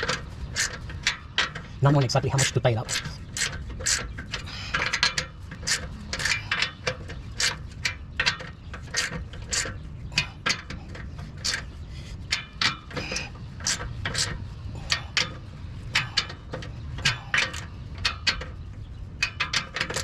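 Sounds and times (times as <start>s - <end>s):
cable tie ratchet clicking: 0.0s - 20.0s.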